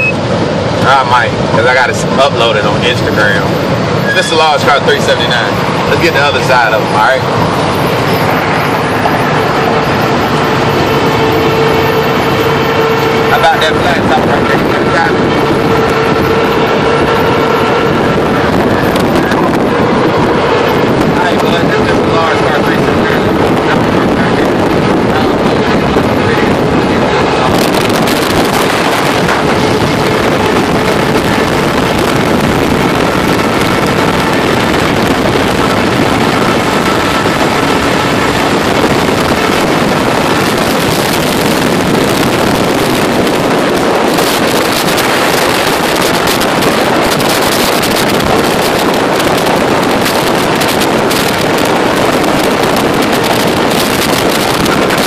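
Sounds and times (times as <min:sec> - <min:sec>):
truck diesel engine running: 0:00.0 - 0:55.0
wind noise on microphone: 0:00.0 - 0:55.0.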